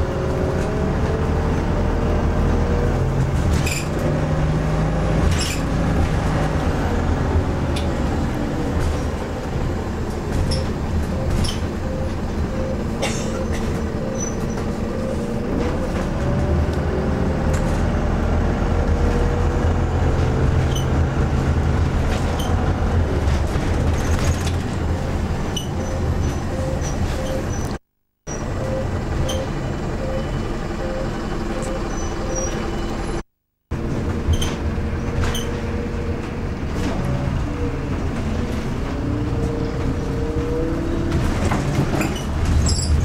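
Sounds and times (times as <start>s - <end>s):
bus engine humming: 0.0s - 43.0s.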